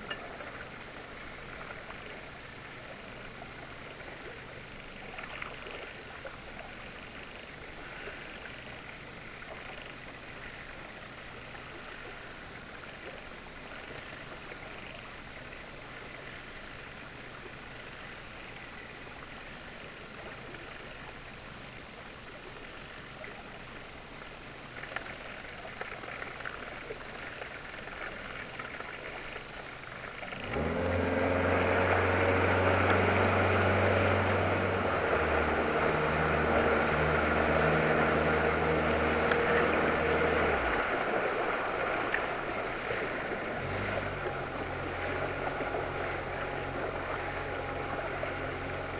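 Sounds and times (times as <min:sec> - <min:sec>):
outboard motor: 0:00.0 - 0:48.9
water noise: 0:00.0 - 0:48.9.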